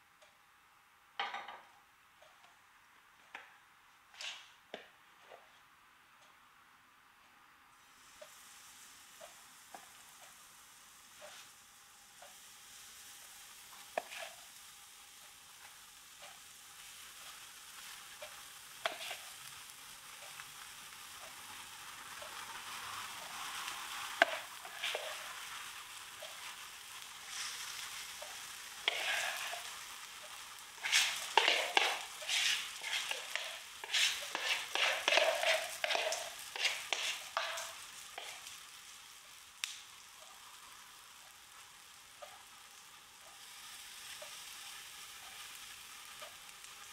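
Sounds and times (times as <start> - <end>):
batter sizzling in frying pan: 7.8 - 46.9.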